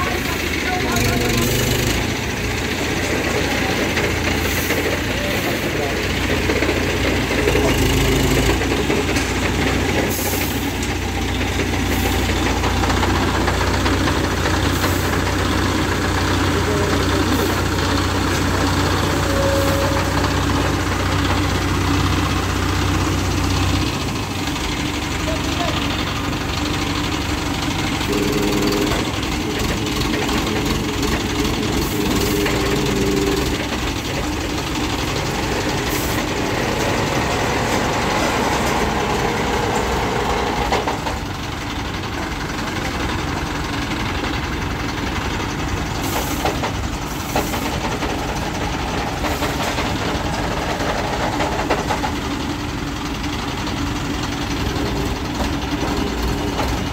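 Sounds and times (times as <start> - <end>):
crane diesel engine running: 0.0 - 56.9.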